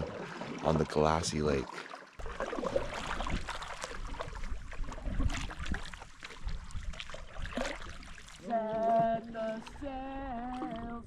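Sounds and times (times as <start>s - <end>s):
paddle splashes and drips: 0.0s - 11.0s.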